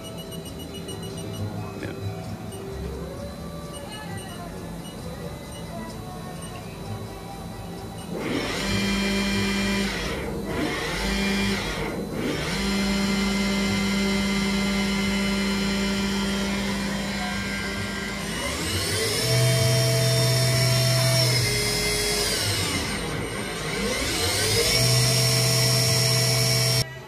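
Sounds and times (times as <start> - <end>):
machine drive motors whining: 0.0 - 27.0.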